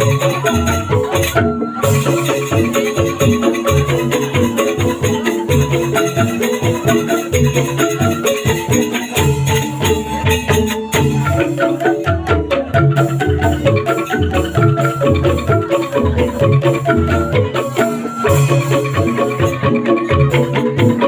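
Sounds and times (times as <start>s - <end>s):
shaker rhythm: 0.0s - 21.0s
xylophone-like tuned percussion: 0.0s - 21.0s.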